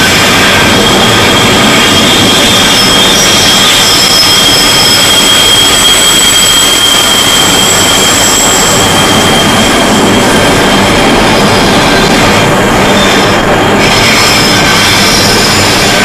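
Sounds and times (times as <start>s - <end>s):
freight train wheels on rail: 0.0s - 16.0s
high-pitched wheel squeal: 0.0s - 16.0s.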